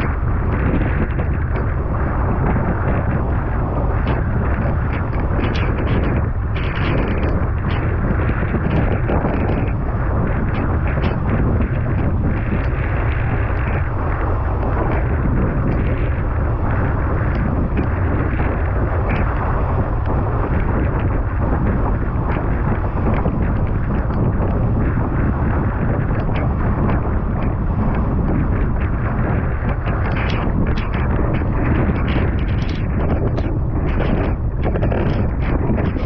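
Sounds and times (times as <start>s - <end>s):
water rushing under board: 0.0s - 36.0s
wind buffeting microphone: 0.0s - 36.0s.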